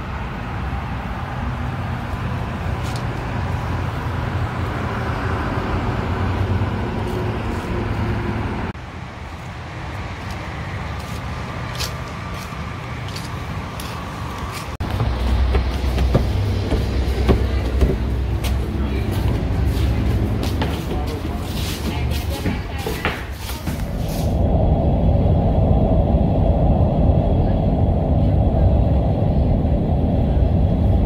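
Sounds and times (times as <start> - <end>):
road vehicle rumble: 0.0 - 31.0.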